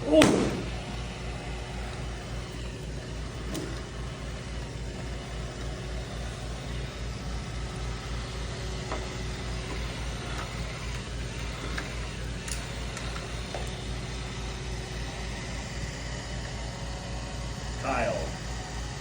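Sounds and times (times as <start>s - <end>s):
robot vacuum motor hum: 0.0s - 19.0s.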